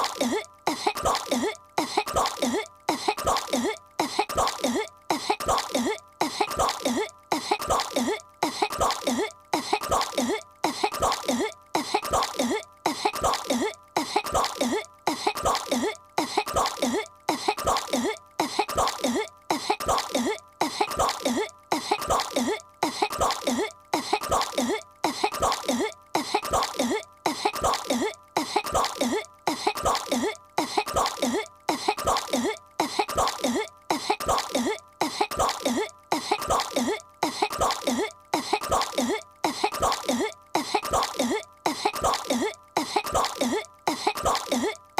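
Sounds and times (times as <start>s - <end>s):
girl's cartoon voice coughing: 0.0s - 44.9s.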